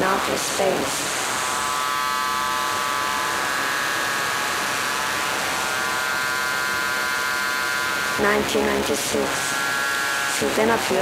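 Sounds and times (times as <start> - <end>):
electronic drone: 0.0 - 11.0.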